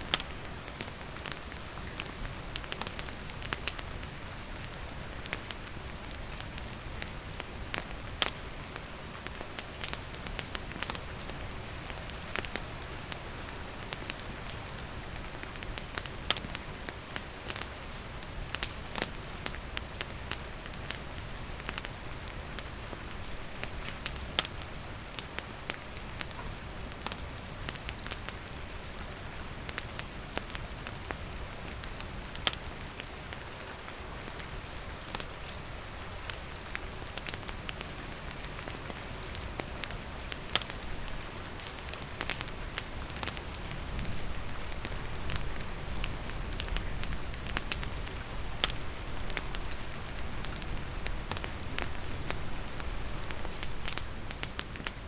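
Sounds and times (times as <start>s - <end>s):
campfire crackling and popping: 0.0s - 55.0s
rain hissing and pattering: 0.0s - 55.0s.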